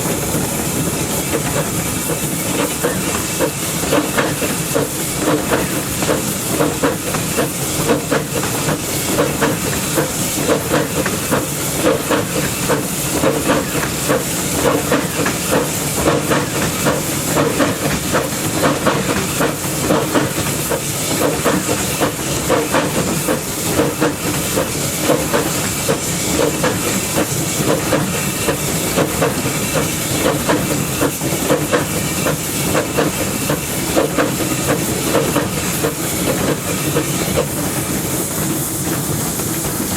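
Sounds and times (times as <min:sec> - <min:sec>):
hiss of steam: 0:00.0 - 0:39.9.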